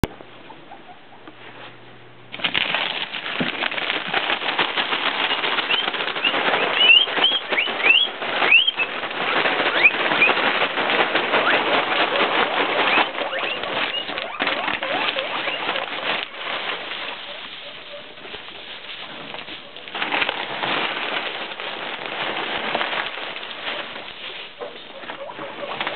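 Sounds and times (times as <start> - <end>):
guinea pigs squeaking: 0.4 - 1.4, 2.3 - 25.9
hay rustling and crackling: 2.3 - 25.9.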